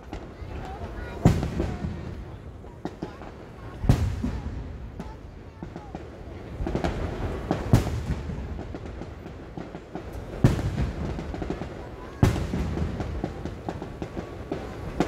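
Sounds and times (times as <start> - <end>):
fireworks booming: 0.0 - 15.0
fireworks popping and crackling: 0.0 - 15.0.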